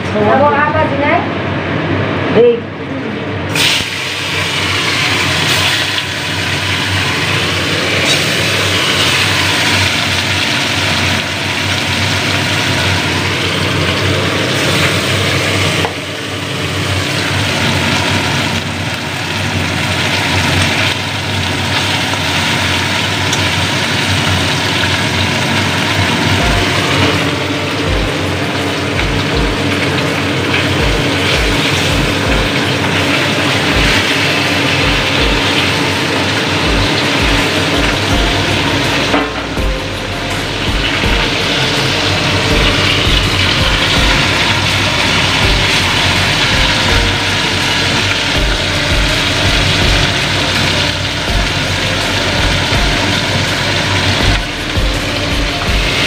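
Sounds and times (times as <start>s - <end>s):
fish sizzling in hot oil: 3.5s - 56.0s.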